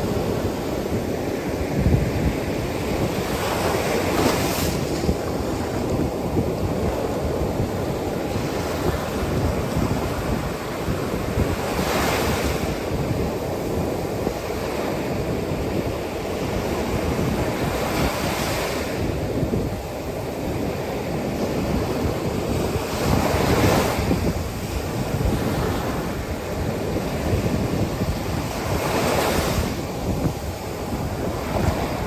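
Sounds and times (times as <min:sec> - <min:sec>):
ocean waves washing in: 0:00.0 - 0:32.0
wind buffeting microphone: 0:00.0 - 0:32.0.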